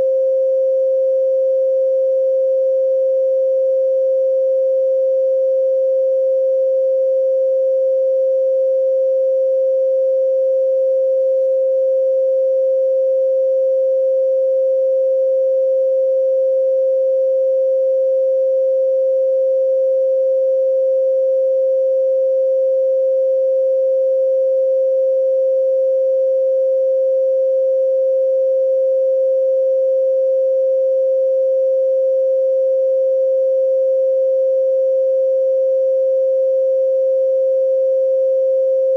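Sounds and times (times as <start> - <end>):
pure sine tone: 0.0 - 38.9.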